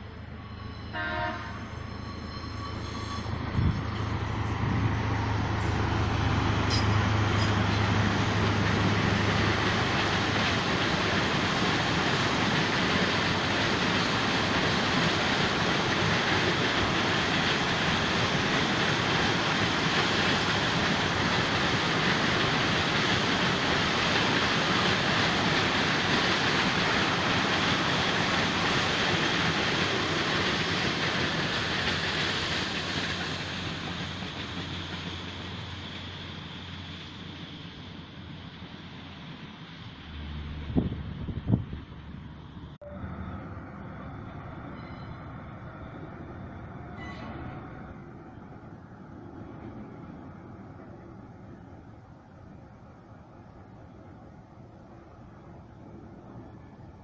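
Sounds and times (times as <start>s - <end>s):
train wagons rolling on rails: 0.0s - 57.0s.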